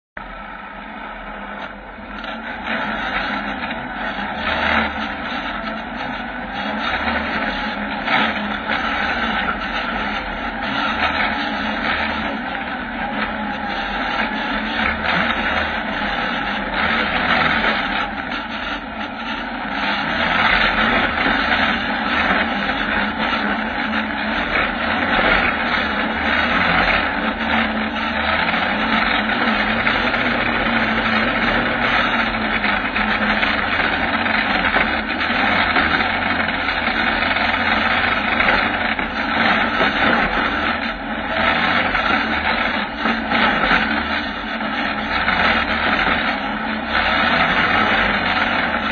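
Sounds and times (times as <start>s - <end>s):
buggy engine on rough ground: 0.0s - 48.9s.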